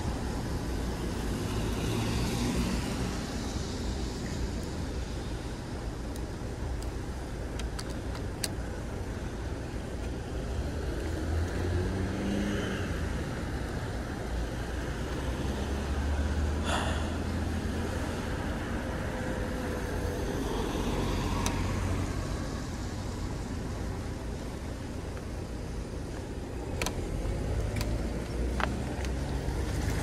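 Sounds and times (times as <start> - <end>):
motor vehicles passing: 0.0 - 5.5, 9.0 - 30.0
traffic and road rumble: 0.0 - 30.0.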